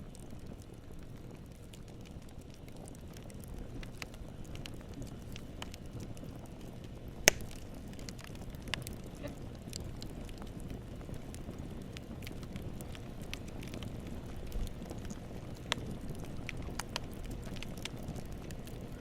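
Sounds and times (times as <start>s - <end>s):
campfire rumbling: 0.0s - 19.0s
fire crackling and popping: 0.0s - 19.0s.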